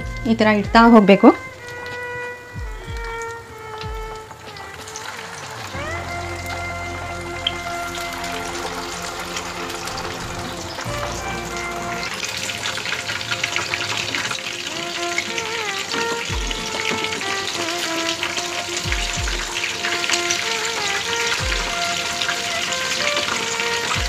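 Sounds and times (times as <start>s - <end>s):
oil sizzling and crackling: 1.3s - 24.0s.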